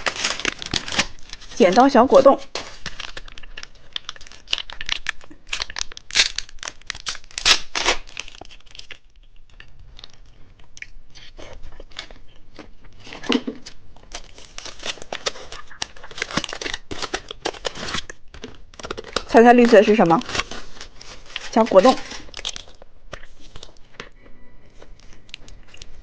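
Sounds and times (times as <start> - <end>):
plastic wrapper crinkling: 0.0 - 26.0.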